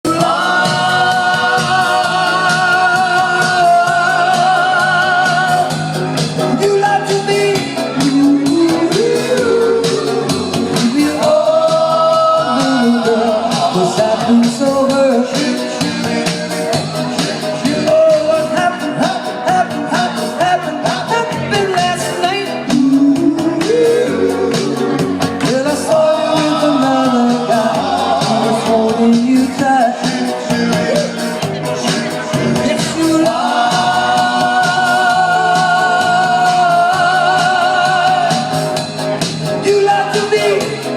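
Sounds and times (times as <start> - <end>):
steady beat: 0.0 - 40.9
vocal group singing: 0.0 - 40.9.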